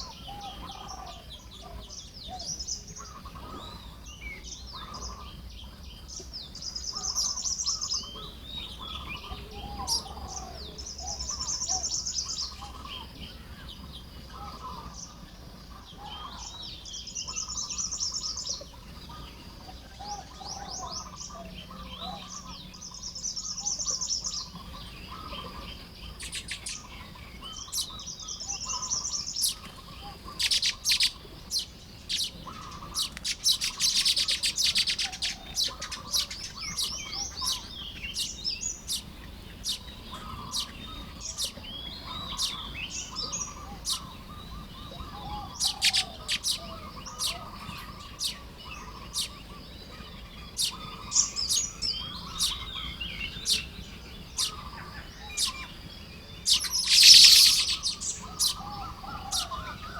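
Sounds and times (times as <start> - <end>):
birds chirping and chattering: 0.0 - 59.9.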